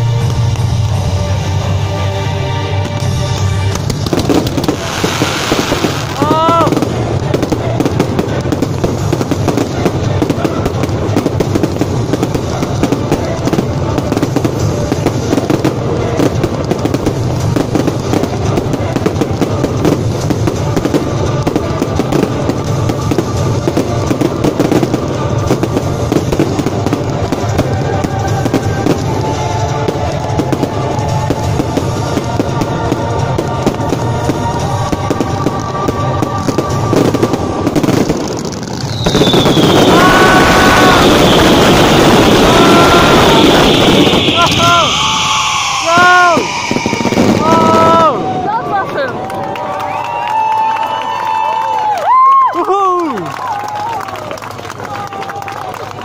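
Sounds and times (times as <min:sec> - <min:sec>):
music playing: 0:00.0 - 0:50.5
fireworks bangs and crackling: 0:00.0 - 0:56.0.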